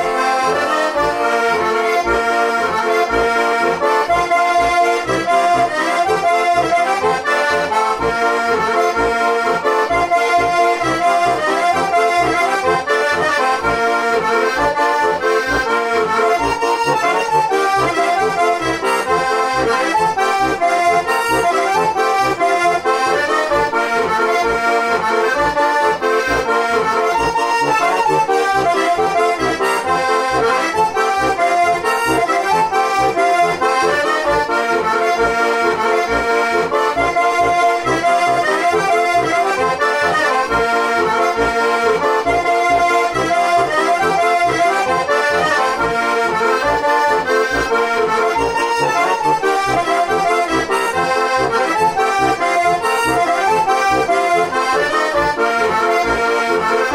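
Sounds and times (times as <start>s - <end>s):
button accordion folk tune: 0.0s - 56.9s.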